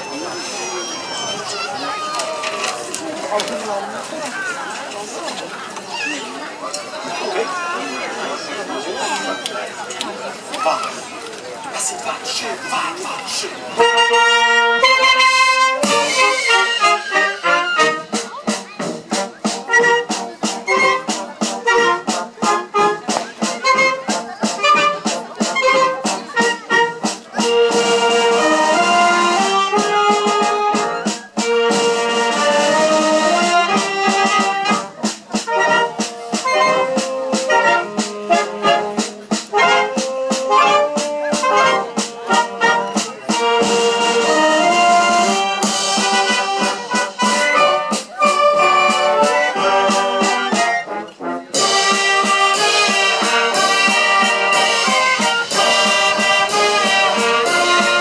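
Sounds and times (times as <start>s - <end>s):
wind band playing a waltz: 0.0s - 58.0s.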